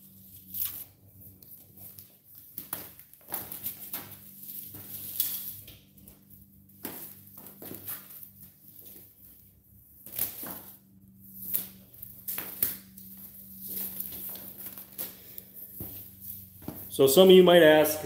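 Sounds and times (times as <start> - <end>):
tools and cords being handled: 0.0 - 17.1.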